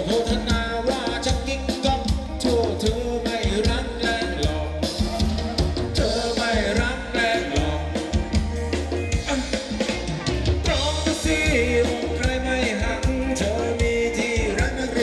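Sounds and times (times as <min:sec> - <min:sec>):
drum kit beat: 0:00.0 - 0:15.0
live band playing dance music: 0:00.0 - 0:15.0.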